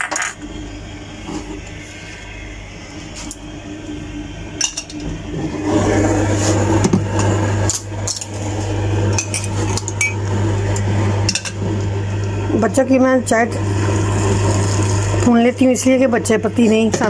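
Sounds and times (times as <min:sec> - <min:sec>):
low hum: 0:00.4 - 0:17.0.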